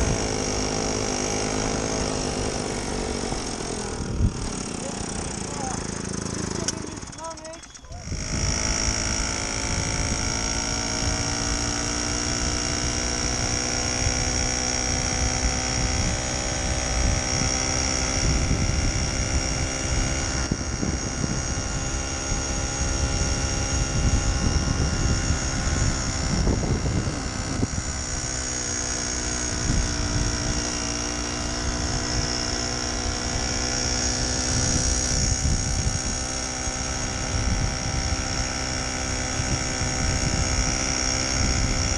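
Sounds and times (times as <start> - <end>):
moped engine running: 0.0 - 41.9.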